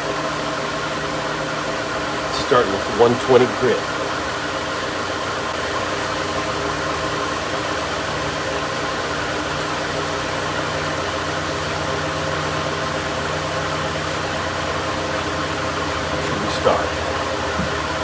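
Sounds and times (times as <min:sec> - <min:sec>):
electric sander on wood: 0:01.7 - 0:18.0.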